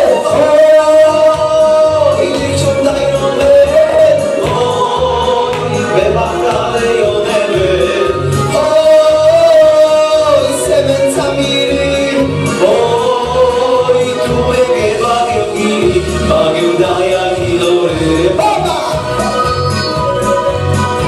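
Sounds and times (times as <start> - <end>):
man singing into a microphone: 0.0 - 19.6
backing track with bass beat: 0.0 - 21.0.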